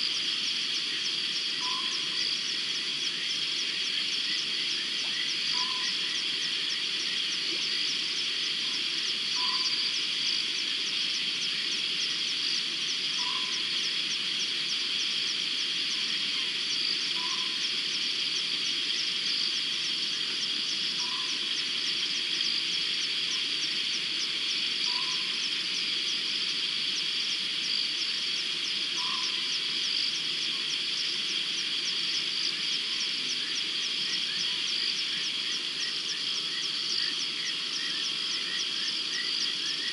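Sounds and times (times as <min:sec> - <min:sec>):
frogs and insects trilling: 0:00.0 - 0:39.9.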